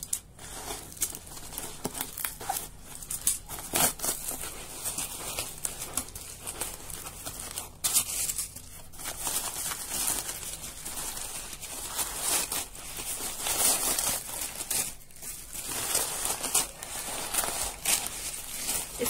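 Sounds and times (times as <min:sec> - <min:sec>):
paper crumpling and rustling: 0:00.0 - 0:19.0.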